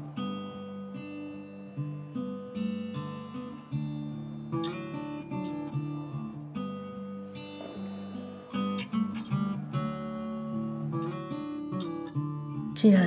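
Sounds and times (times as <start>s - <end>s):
acoustic guitar picking chords: 0.0s - 13.0s.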